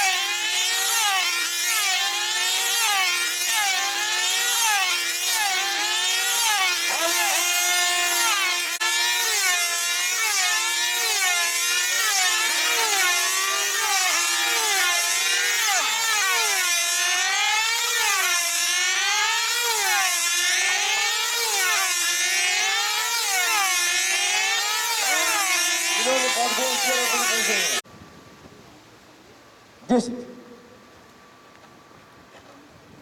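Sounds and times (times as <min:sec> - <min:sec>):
model aircraft engines whining: 0:00.0 - 0:27.8.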